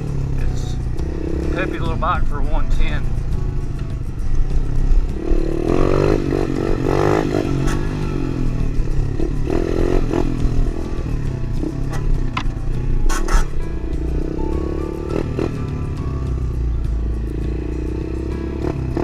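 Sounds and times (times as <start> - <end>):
pit bike engine revving: 0.0 - 2.9, 4.6 - 19.0.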